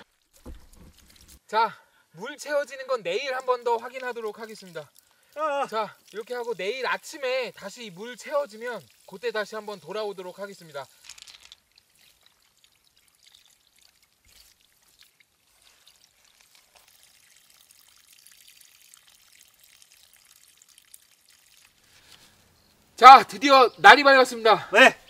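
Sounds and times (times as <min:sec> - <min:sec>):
water trickling onto gravel: 0:00.0 - 0:01.6, 0:02.2 - 0:23.4.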